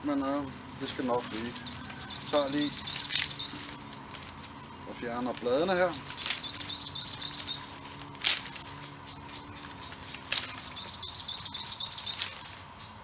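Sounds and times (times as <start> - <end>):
bird chirping: 0.0 - 13.0
leaves being torn off: 0.3 - 13.0.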